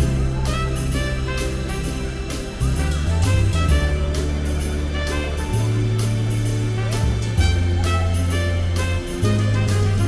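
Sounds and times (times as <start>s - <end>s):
deep held bass line: 0.0s - 10.0s
pitched melody notes: 0.0s - 10.0s
steady drum beat: 0.0s - 10.0s.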